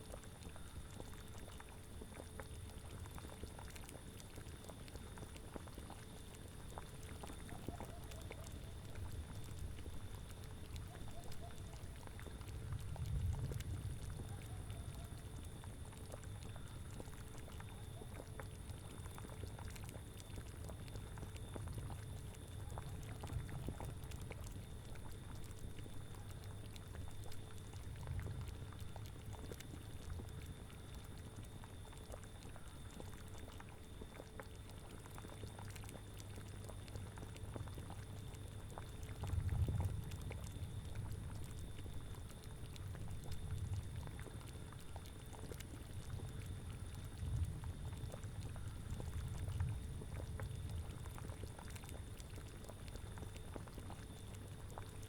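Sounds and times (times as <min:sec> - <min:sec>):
liquid bubbling at a boil: 0:00.0 - 0:55.0.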